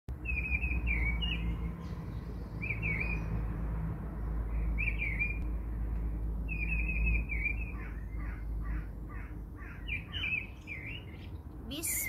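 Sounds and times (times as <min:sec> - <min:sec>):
birds chirping: 0:00.2 - 0:05.4, 0:06.4 - 0:12.0.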